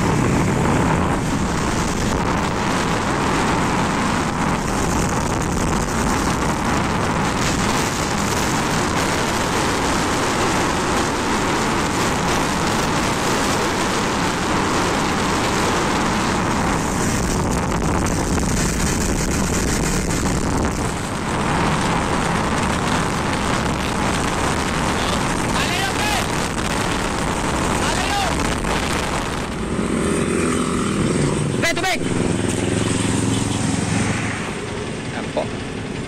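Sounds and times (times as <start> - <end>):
motorcycle engine cruising: 0.0 - 36.0
wind rushing on microphone: 0.0 - 36.0.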